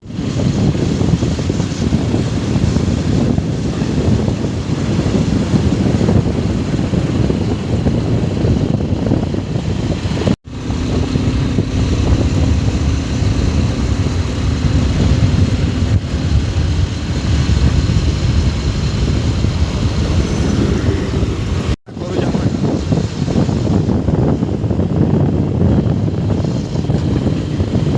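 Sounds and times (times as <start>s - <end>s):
motorcycle engine running: 0.0s - 27.9s
wind rush on microphone: 0.0s - 27.9s.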